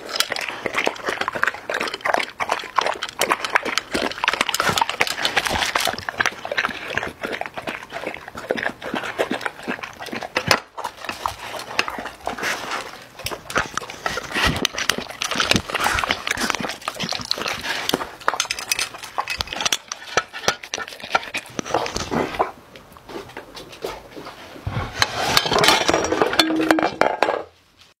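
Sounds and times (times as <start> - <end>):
dog licking and crunching kibble: 0.0 - 26.8.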